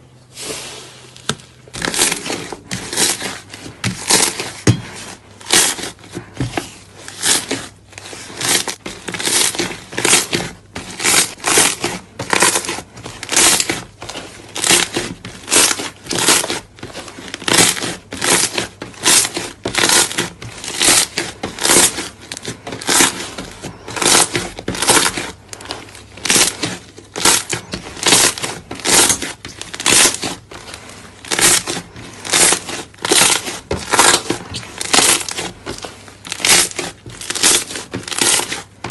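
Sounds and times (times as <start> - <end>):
slime squished by hand: 0.4 - 38.9.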